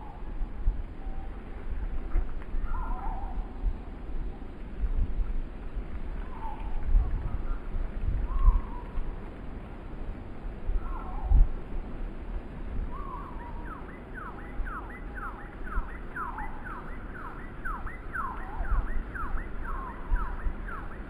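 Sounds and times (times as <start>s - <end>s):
wind buffeting microphone: 0.0s - 21.0s
wind rushing through trees: 0.0s - 21.0s.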